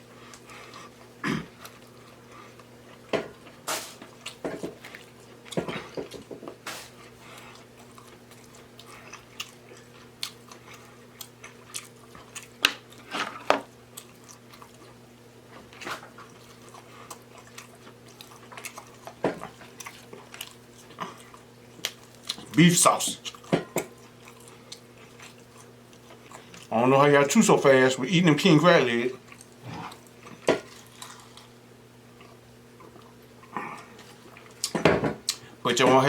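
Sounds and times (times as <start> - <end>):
chewing and mouth smacking: 0.2 - 6.0, 6.9 - 26.7, 29.1 - 35.5.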